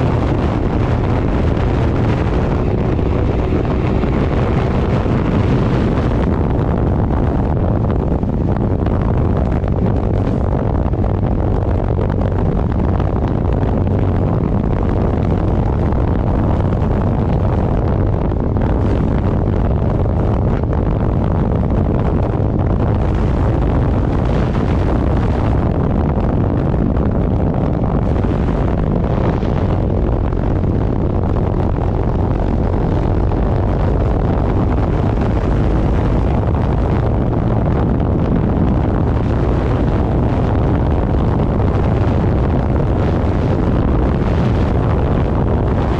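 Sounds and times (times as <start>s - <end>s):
motorcycle engine humming: 0.0s - 45.9s
wind buffeting microphone: 0.0s - 45.9s.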